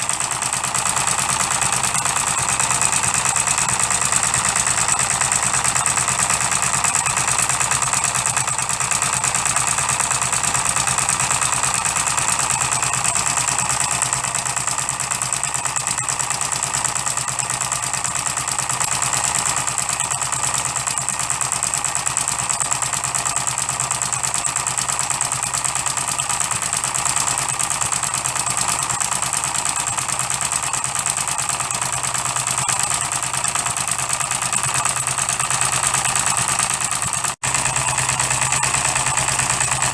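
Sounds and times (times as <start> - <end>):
model diesel engine running: 0.0 - 39.9.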